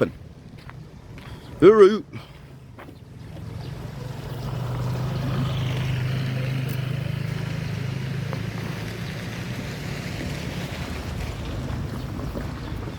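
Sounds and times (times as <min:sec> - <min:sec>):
vehicle engine droning: 0:00.0 - 0:12.9.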